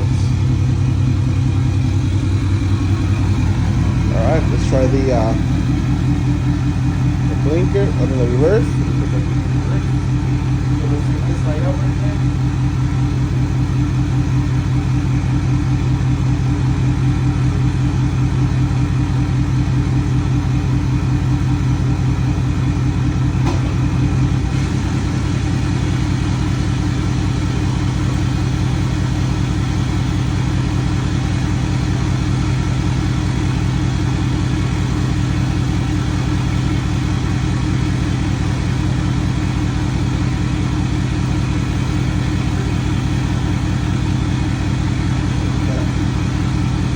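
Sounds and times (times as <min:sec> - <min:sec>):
diesel pickup idling: 0:00.0 - 0:46.9.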